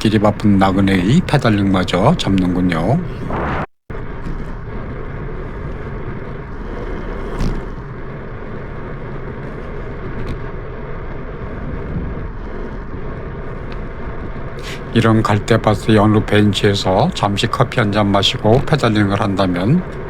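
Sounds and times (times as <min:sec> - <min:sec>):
wind and road noise: 0:00.0 - 0:20.0
wind buffeting microphone: 0:00.0 - 0:20.0.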